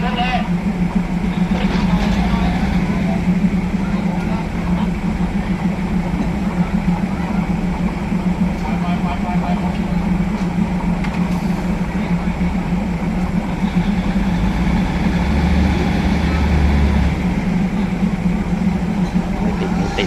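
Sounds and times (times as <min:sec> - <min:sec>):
deep low rumble: 0:00.0 - 0:20.0
diesel railcar engine running: 0:00.0 - 0:20.0.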